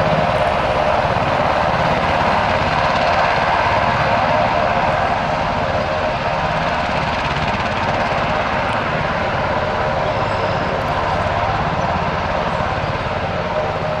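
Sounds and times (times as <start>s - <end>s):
helicopter turbine noise: 0.0s - 14.0s.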